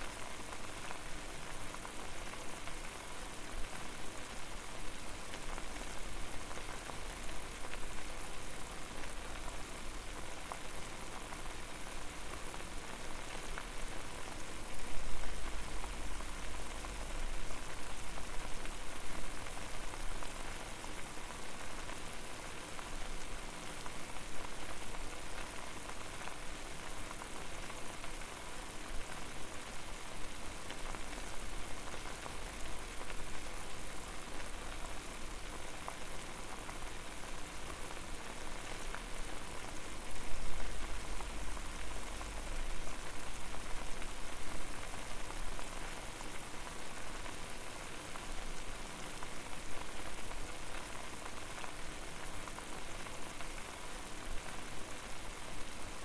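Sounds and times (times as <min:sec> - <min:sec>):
water boiling and bubbling: 0:00.0 - 0:56.0.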